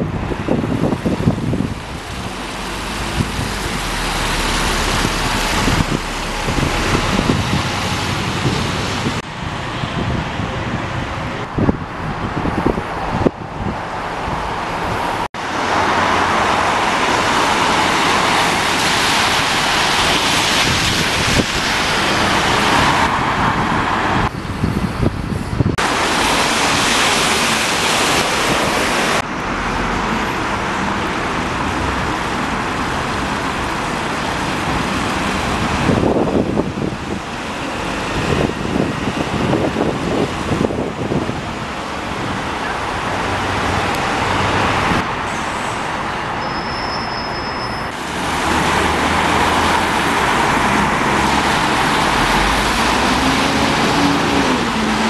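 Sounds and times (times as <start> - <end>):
buses and cars driving past: 0.0 - 55.0.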